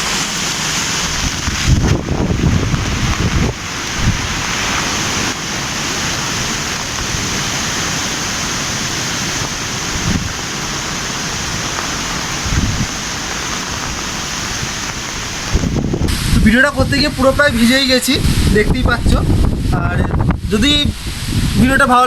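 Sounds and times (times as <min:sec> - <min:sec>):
heavy rain pouring: 0:00.0 - 0:22.0
wind buffeting microphone: 0:00.0 - 0:22.0.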